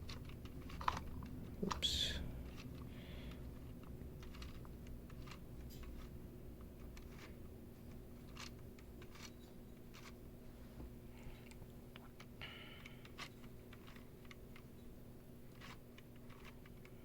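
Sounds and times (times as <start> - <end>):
plastic parts clicking: 0.0 - 10.2, 11.4 - 17.0
faint steady hum: 0.0 - 17.0.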